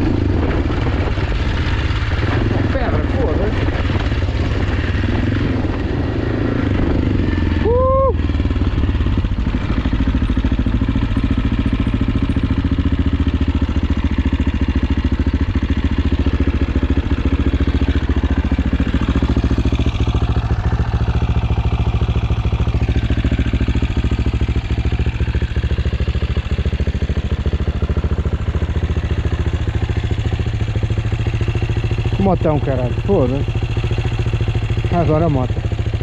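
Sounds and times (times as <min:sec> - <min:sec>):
single-cylinder engine running: 0:00.0 - 0:36.0.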